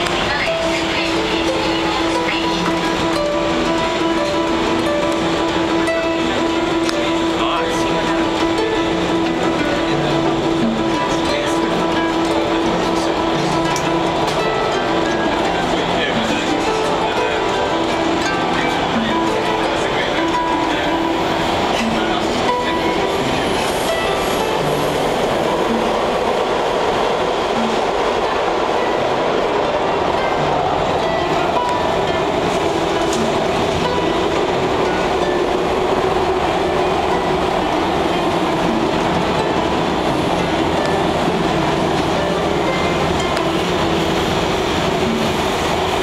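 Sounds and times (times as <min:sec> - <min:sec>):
harp plucked notes: 0:00.0 - 0:46.0
subway train rail noise: 0:00.0 - 0:46.0.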